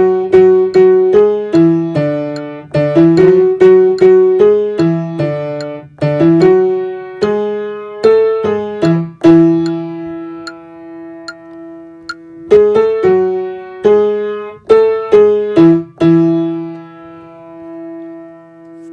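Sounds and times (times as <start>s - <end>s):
piano melody: 0.0s - 18.9s.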